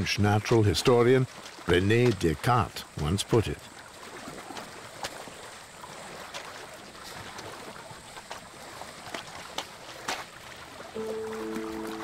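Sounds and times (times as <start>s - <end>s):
mud squelching and sloshing: 0.0s - 12.0s
small splashes: 0.0s - 12.0s.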